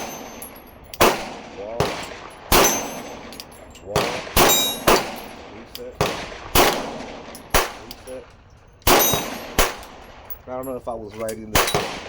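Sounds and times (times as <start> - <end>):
steel targets clanging: 0.0 - 1.2, 1.8 - 6.1, 6.7 - 12.0
pistol shots: 0.0 - 8.2, 8.8 - 10.4, 11.4 - 12.0.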